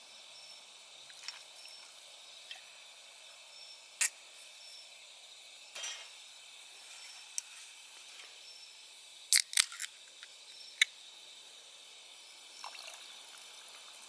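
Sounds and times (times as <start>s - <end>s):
night insects chirping: 0.0s - 14.0s.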